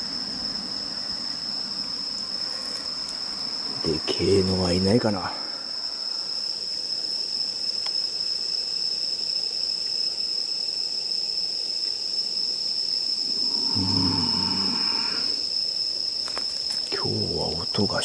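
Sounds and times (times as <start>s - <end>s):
insects chorus shrilling: 0.0s - 18.0s.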